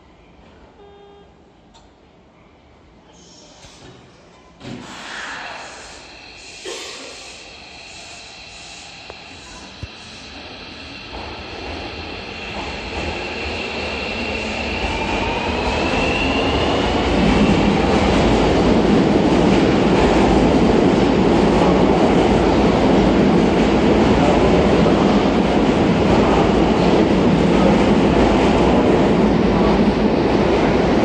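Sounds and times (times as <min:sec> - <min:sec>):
train cars running noise: 0:03.2 - 0:31.0.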